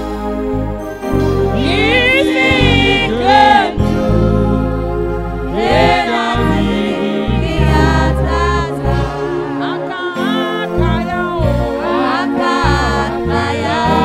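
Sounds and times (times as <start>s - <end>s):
bass: 0.0s - 14.0s
keyboard chords: 0.0s - 14.0s
person singing gospel: 1.5s - 14.0s.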